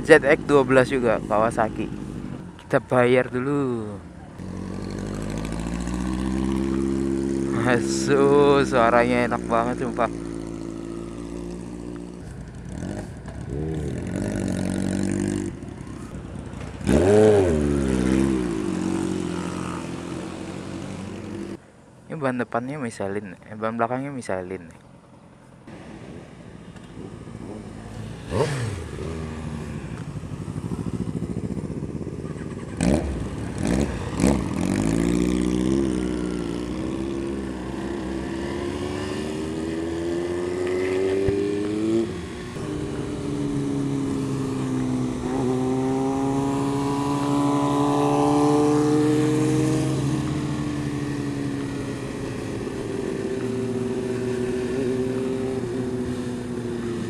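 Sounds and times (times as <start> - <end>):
motorcycle engine accelerating: 3.7 - 21.6, 25.7 - 57.0.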